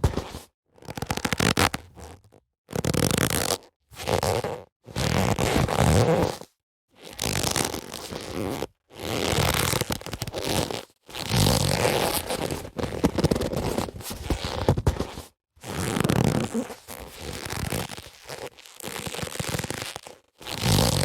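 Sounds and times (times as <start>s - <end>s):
leather gloves rubbing and creaking: 0.0s - 21.0s.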